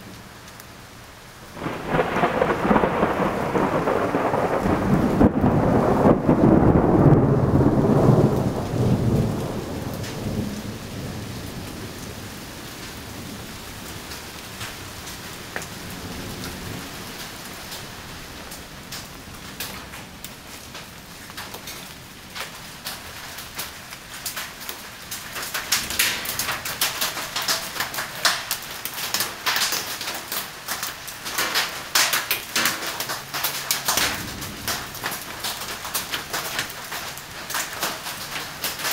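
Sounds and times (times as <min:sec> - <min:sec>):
heavy raindrops pattering: 0:00.0 - 0:38.9
steady rain: 0:00.0 - 0:38.9
thunder rumbling: 0:01.5 - 0:38.9.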